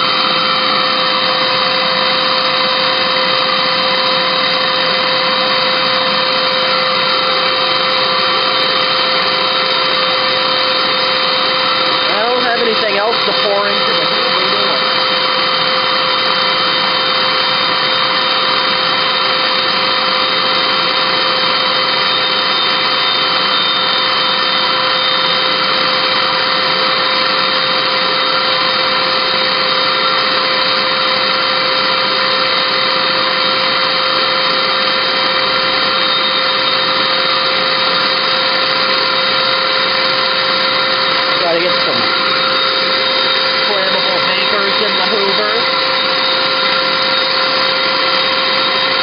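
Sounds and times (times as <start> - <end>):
vacuum cleaner motor whine: 0.0 - 49.0.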